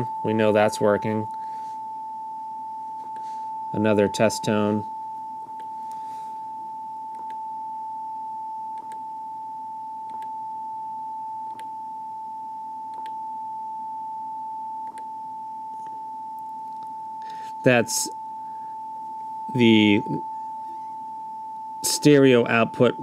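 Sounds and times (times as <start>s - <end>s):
steady pure high tone: 0.0s - 23.0s.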